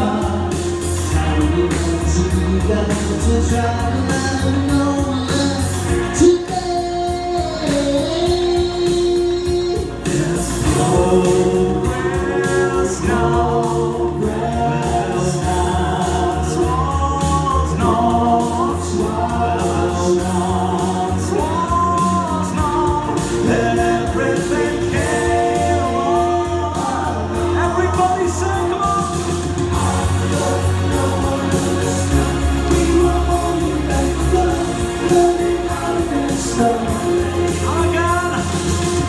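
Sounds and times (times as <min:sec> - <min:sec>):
men singing in harmony: 0:00.0 - 0:39.0
music with bass and beat: 0:00.0 - 0:39.0.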